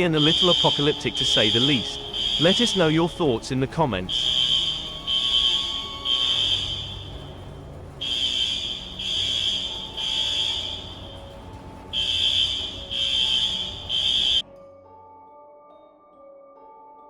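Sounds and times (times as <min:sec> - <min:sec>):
fire alarm high electronic tone: 0:00.0 - 0:14.4.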